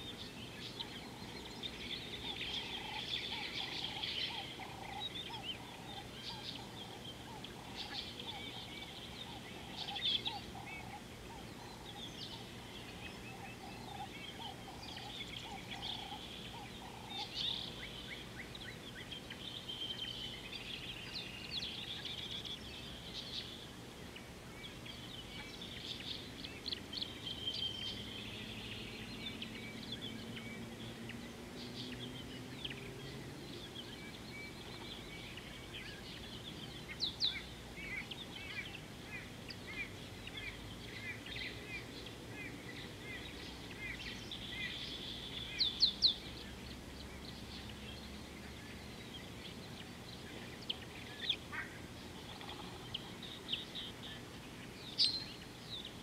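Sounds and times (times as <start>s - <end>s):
bird chirps and trills: 0.0s - 56.0s
low repeated bird call: 0.0s - 56.0s.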